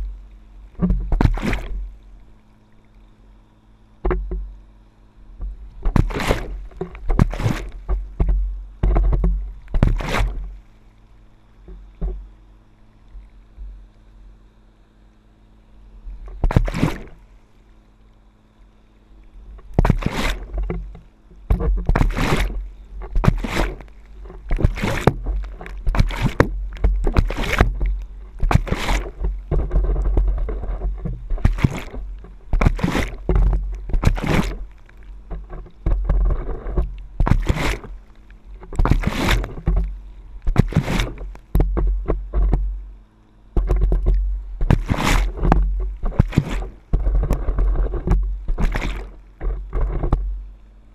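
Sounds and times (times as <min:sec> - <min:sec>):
water splashing against paddleboard: 0:00.0 - 0:03.1, 0:04.0 - 0:04.7, 0:05.3 - 0:14.2, 0:16.1 - 0:17.8, 0:18.8 - 0:50.6
steady low rumble: 0:00.0 - 0:50.9.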